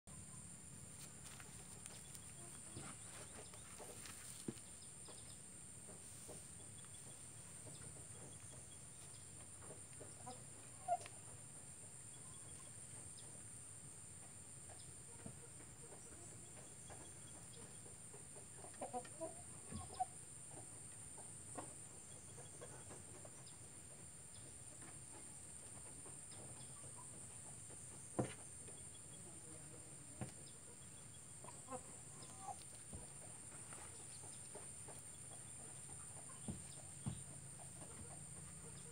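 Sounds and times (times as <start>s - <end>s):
chickens clucking: 0.1s - 38.9s.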